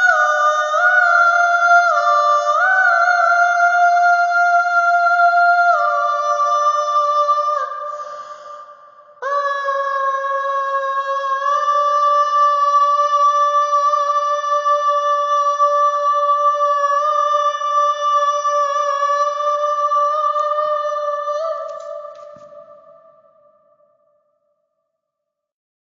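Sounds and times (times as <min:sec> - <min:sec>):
high voice singing long note: 0:00.0 - 0:23.3.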